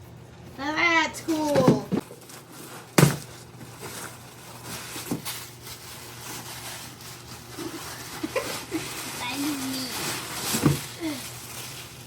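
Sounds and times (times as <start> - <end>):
paper rustling: 1.5 - 12.0.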